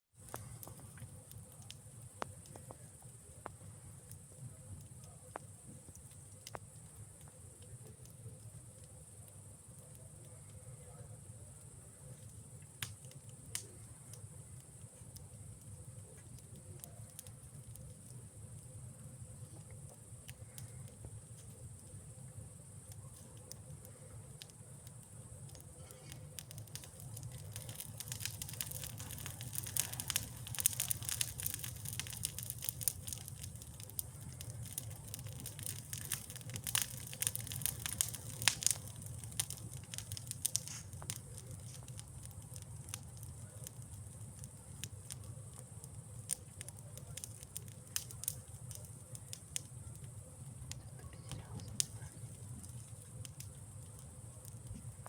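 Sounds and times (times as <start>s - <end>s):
campfire crackling and popping: 0.1s - 55.0s.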